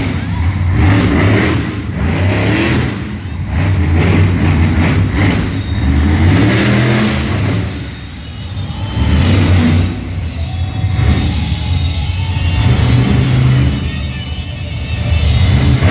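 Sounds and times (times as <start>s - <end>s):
monster truck engine revving: 0.0s - 15.9s.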